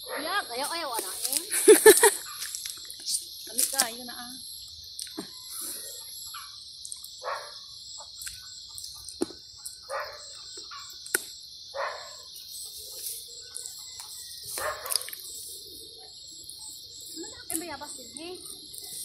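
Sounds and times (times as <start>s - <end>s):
insects chirping chorus: 0.0s - 19.0s.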